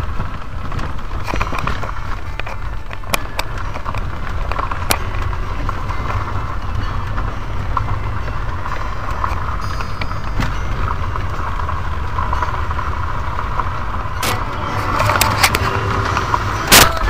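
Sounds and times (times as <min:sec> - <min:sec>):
sharp clicks and rattles: 0:00.0 - 0:17.0
tyres rumbling on gravel: 0:00.0 - 0:17.0.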